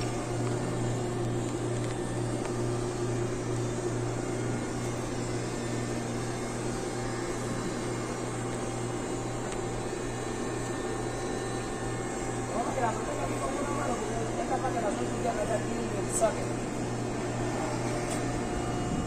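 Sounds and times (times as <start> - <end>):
diesel machinery droning: 0.0 - 19.0
faint steady whine: 0.0 - 19.0.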